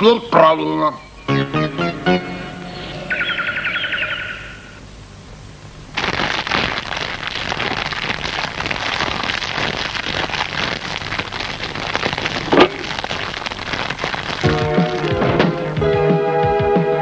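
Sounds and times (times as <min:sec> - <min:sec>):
dense crackling hiss: 0:00.0 - 0:17.0.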